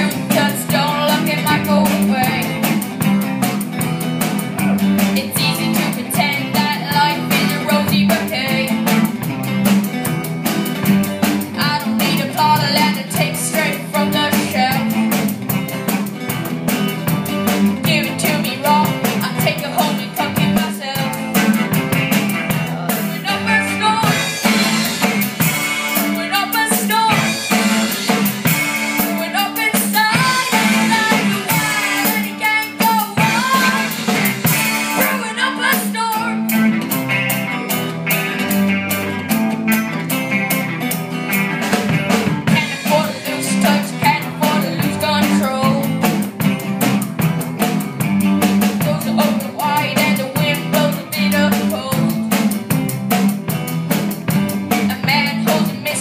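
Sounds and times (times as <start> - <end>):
acoustic guitar: 0.0 - 56.0
drum kit with cymbals: 0.0 - 56.0
electric guitar: 0.0 - 56.0.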